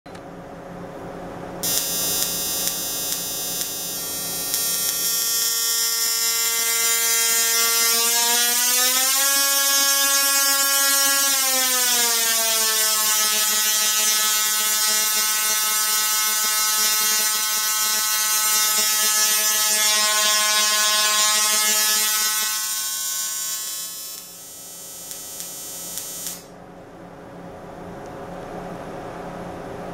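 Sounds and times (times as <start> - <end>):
tesla coil buzzing: 1.6 - 26.6.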